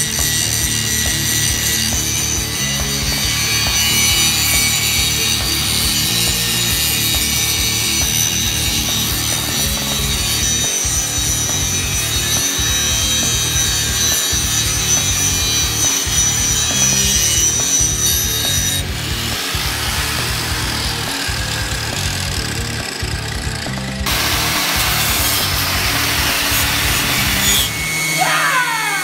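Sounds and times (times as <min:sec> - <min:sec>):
angle grinder cutting steel: 0:00.0 - 0:29.0.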